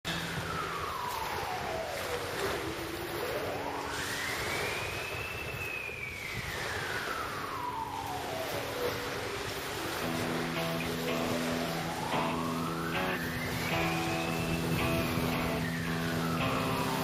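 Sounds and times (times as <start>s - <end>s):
gliding whistle-like tone: 0.1s - 17.0s
surf and wind rushing: 0.1s - 17.0s.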